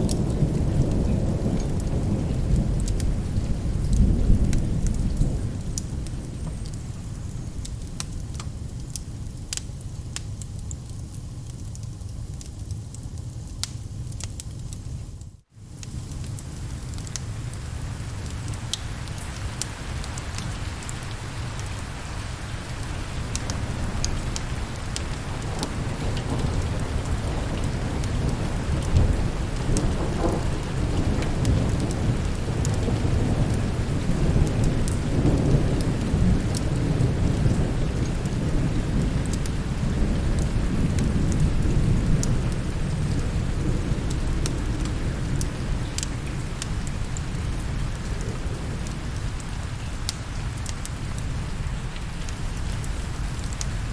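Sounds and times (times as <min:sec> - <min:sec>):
rolling thunder: 0:00.0 - 0:08.1, 0:18.4 - 0:53.9
heavy rain: 0:00.0 - 0:14.8, 0:15.4 - 0:53.9.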